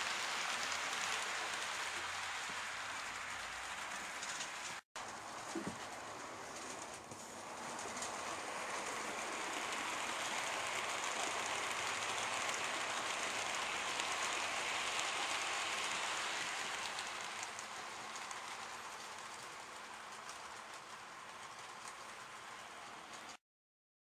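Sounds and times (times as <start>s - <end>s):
model train wheels rattling: 0.0s - 23.4s.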